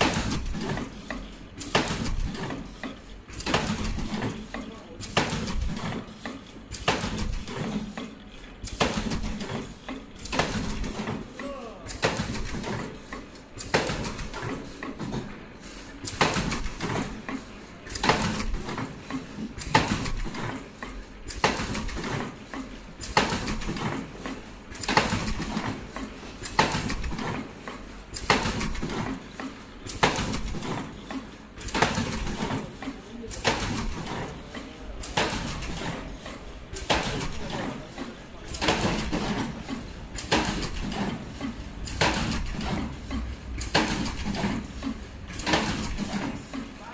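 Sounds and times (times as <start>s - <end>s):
light machine clatter: 0.0s - 46.9s.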